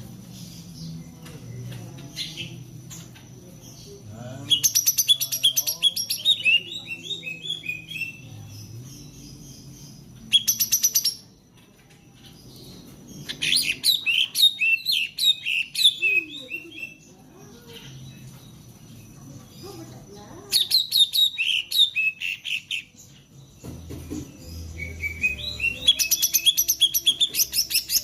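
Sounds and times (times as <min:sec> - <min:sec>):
songbird singing: 0:00.0 - 0:28.0.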